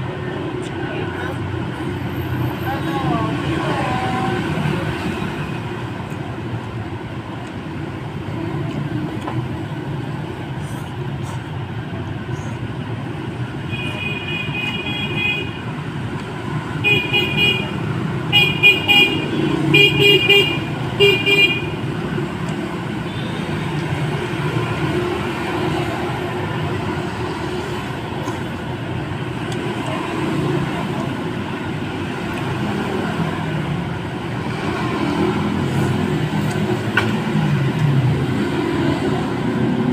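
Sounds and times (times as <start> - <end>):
street traffic noise: 0.0 - 39.9.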